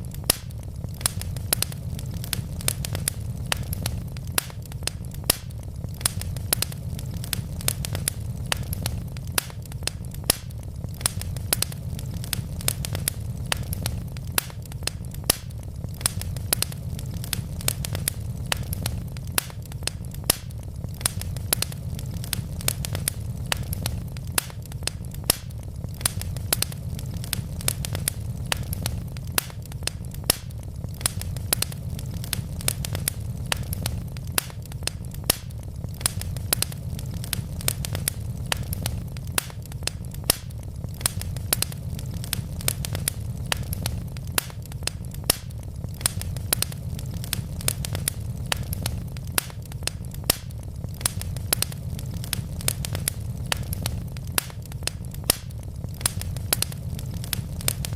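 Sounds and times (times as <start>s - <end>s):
logs crackling in fireplace: 0.0s - 57.9s.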